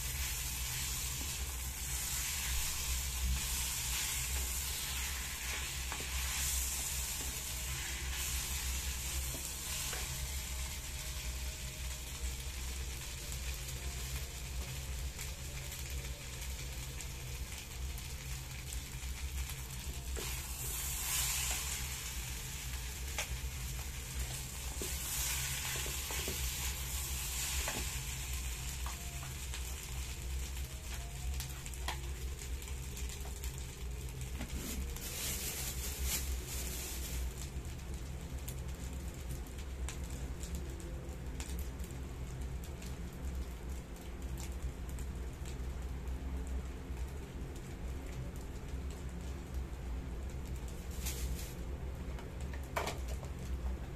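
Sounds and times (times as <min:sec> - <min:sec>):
rice sizzling in frying pan: 0:00.0 - 0:53.9.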